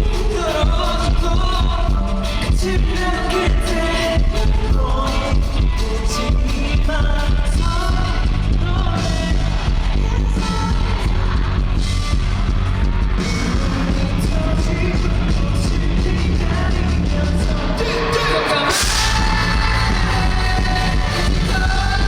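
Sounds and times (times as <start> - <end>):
drums and cymbals: 0.0 - 22.0
person singing lead vocal: 0.0 - 22.0
rock band playing: 0.0 - 22.0.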